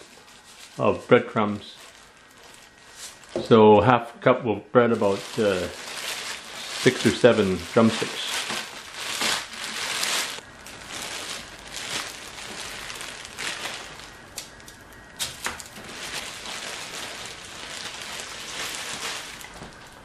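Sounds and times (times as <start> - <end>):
aluminium foil crinkling: 0.0 - 3.6, 4.9 - 20.0.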